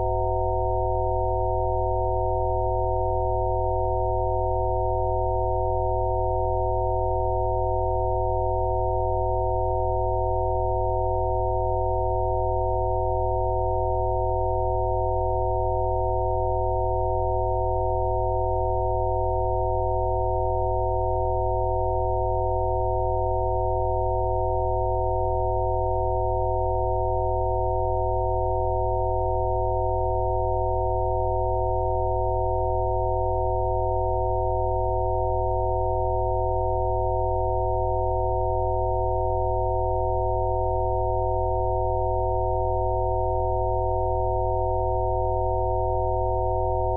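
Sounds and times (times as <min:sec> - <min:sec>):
steady sine tones: 0:00.0 - 0:46.9.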